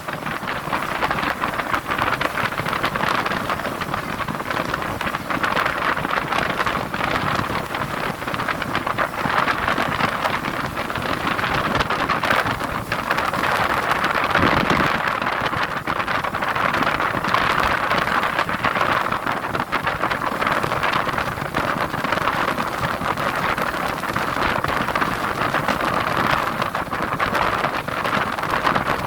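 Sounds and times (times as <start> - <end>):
rough sea surf rushing: 0.0 - 29.0.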